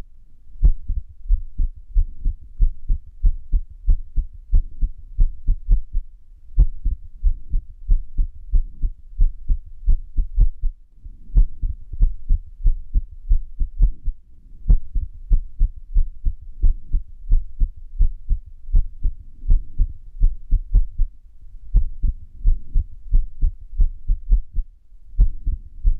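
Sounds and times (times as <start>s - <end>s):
heartbeat thumping: 0.6s - 25.9s.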